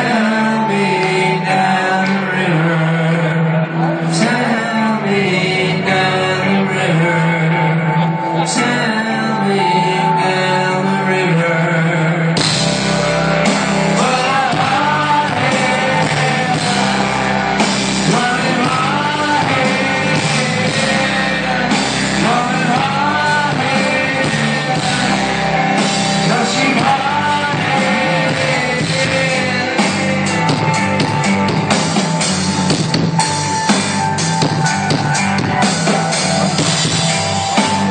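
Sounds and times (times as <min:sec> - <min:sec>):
man singing: 0:00.0 - 0:31.8
live rock band playing: 0:00.0 - 0:37.9.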